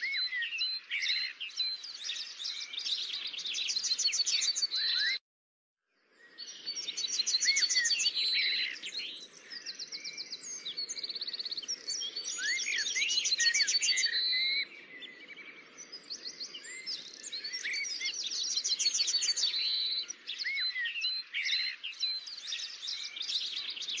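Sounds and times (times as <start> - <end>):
birds chirping and singing: 0.0 - 5.2, 6.1 - 24.0.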